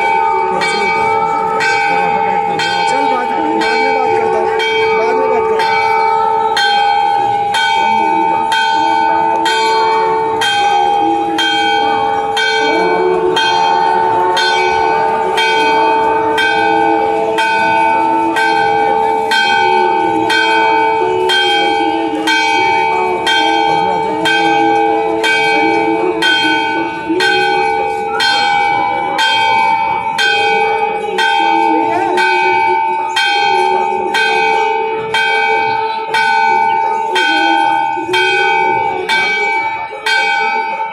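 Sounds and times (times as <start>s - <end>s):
crowd murmuring: 0.0s - 40.9s
temple bells ringing: 0.0s - 40.9s.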